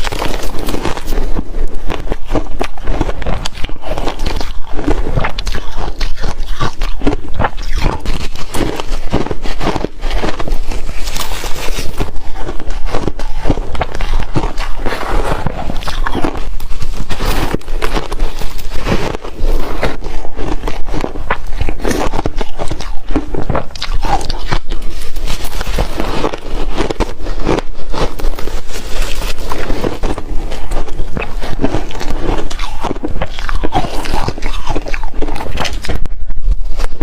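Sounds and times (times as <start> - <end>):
ice cubes crunching: 0.0 - 37.0.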